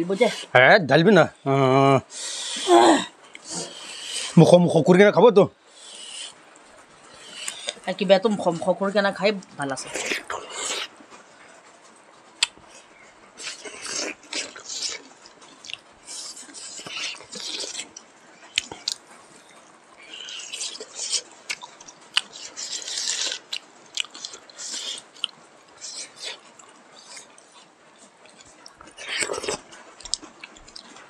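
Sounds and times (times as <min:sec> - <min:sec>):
people chewing and biting food: 0:01.5 - 0:04.6, 0:05.7 - 0:08.8, 0:09.4 - 0:31.0.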